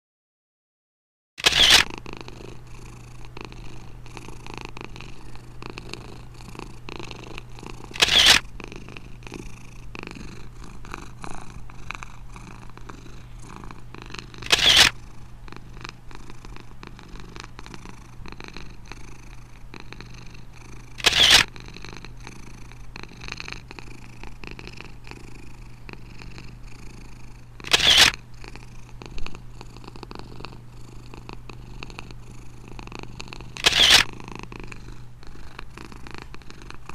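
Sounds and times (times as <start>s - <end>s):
cat purring: 1.9s - 36.9s.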